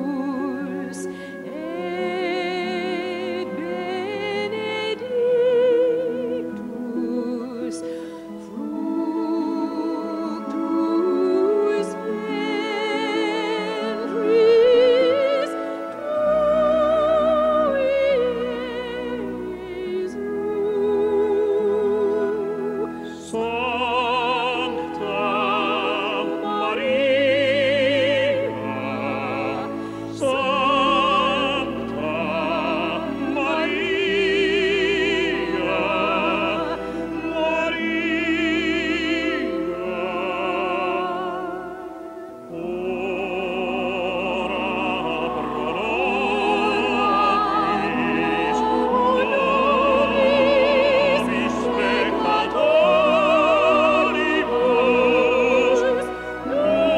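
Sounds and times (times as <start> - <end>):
operatic solo singing: 0.0 - 56.9
orchestral accompaniment: 0.0 - 56.9.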